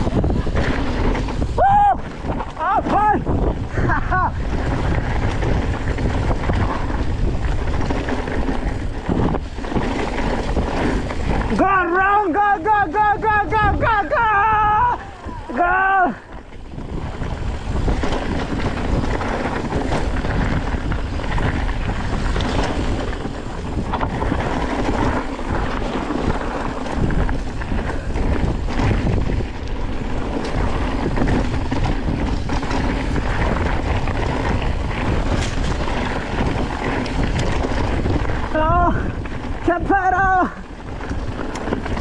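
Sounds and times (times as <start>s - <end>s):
bike rattling over bumps: 0.0s - 42.0s
tyres rolling over dirt: 0.0s - 42.0s
wind buffeting microphone: 0.0s - 42.0s.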